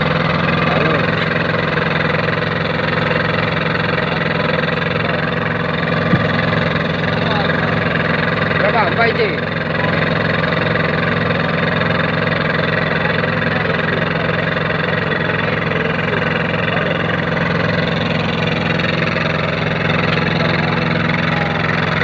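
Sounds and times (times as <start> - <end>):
hydraulic press motor running: 0.0 - 22.0.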